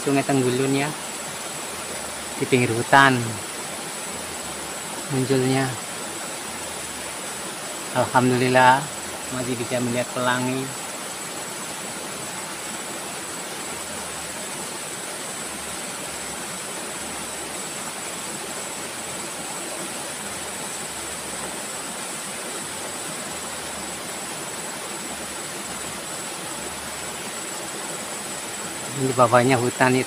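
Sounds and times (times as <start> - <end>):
high-pitched insect drone: 0.0 - 30.0
river water rushing: 0.0 - 30.0.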